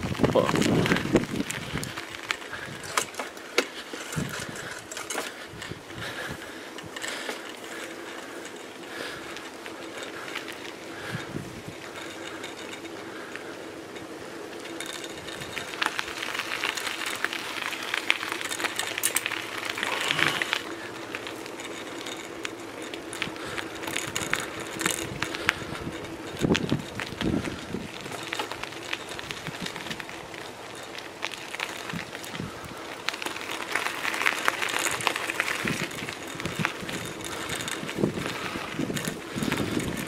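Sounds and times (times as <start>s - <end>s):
bicycle rattling over bumps: 0.0s - 40.0s
bicycle tyre noise on tarmac: 0.0s - 40.0s.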